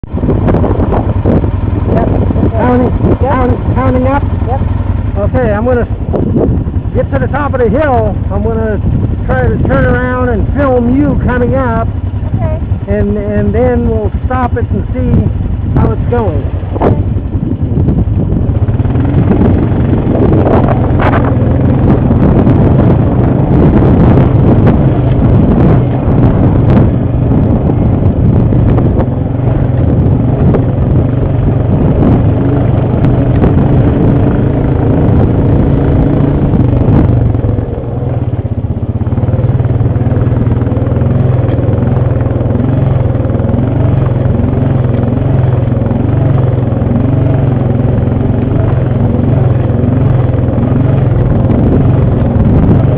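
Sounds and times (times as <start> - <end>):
atv engine running under load: 0.0 - 52.9.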